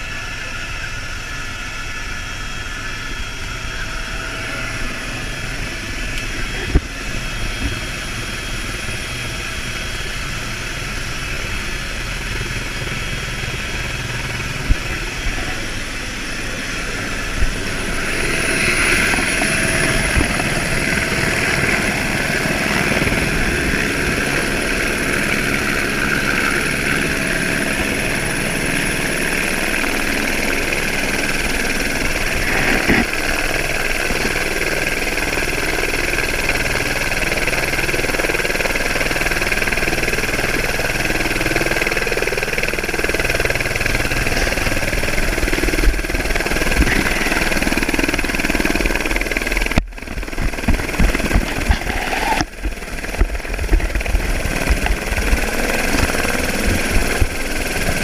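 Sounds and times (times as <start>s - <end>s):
helicopter turbine and rotor drone: 0.0s - 58.0s.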